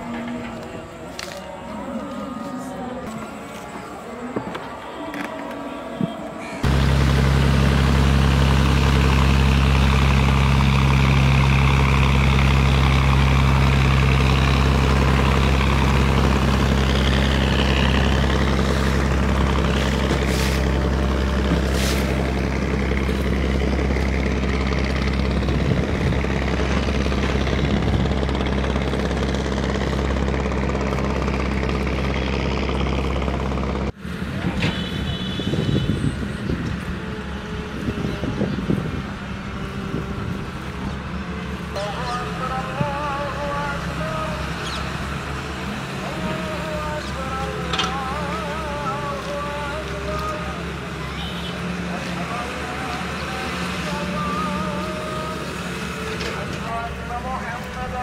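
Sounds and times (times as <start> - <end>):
motorboat engine drone: 0.0 - 58.0.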